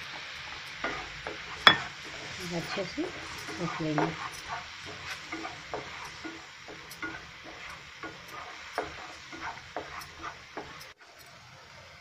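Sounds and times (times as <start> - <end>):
spatula scraping frying pan: 0.0 - 11.2
steady sizzle: 0.0 - 12.0.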